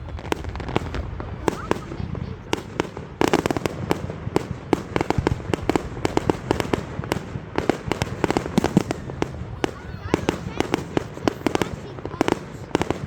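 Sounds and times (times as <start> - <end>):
fireworks bangs and crackling: 0.0 - 13.0
low rumble of bursting shells: 0.0 - 13.0.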